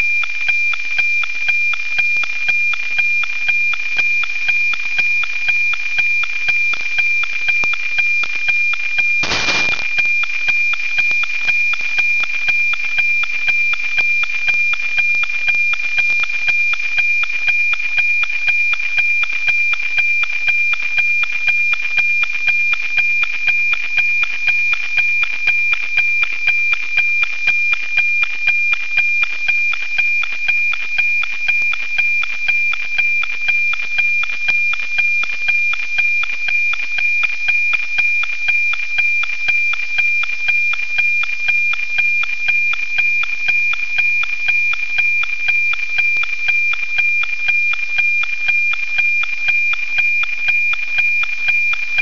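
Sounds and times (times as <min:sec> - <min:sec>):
rhythmic tick-tock: 0:00.0 - 0:52.0.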